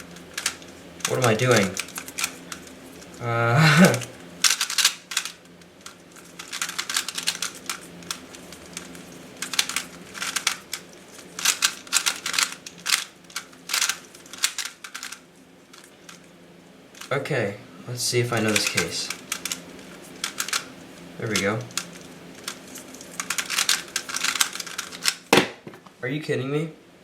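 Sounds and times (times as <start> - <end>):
puzzle cube clicking: 0.2 - 16.2, 18.4 - 20.7, 21.3 - 25.3.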